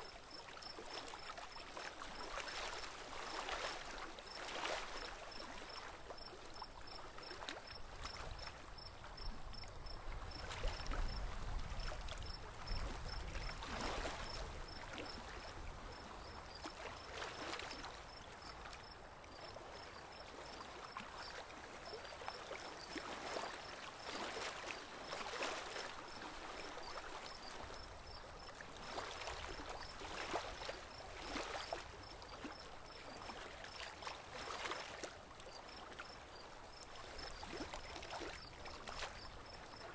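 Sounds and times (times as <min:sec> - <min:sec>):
water lapping around a boat: 0:00.0 - 0:39.9.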